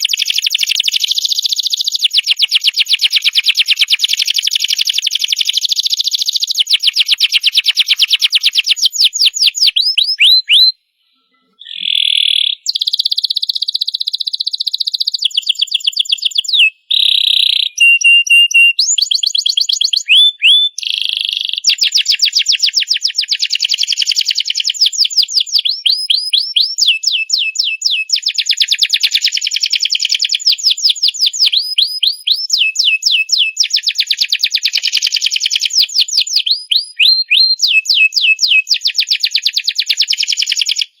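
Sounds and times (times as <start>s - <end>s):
canary singing trills: 0.0s - 22.3s, 23.3s - 39.0s.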